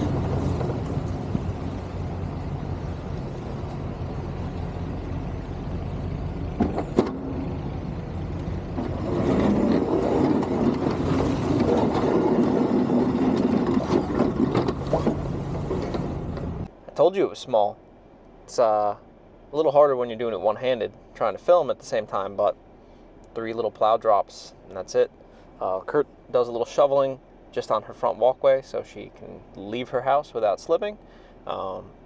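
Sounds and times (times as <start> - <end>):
truck engine running: 0.0 - 26.4
rough plow rumble: 0.0 - 32.0.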